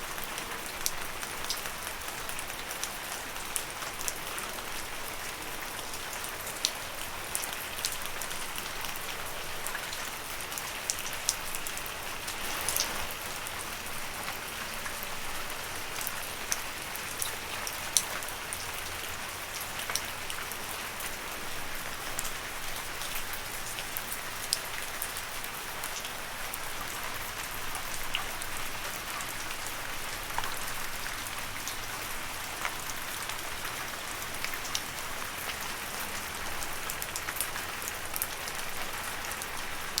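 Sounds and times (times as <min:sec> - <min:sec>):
rain falling on leaves: 0:00.0 - 0:40.0.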